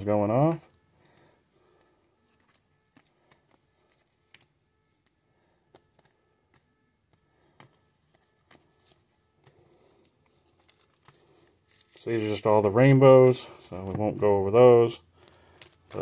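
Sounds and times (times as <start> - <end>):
trading cards clicking and shuffling: 0.2 - 16.0.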